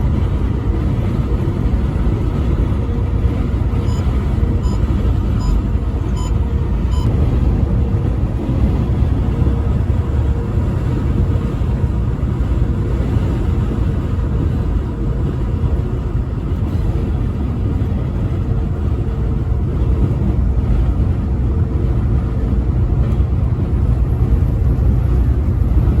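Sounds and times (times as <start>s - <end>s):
vehicle driving at highway speed: 0.0s - 26.0s.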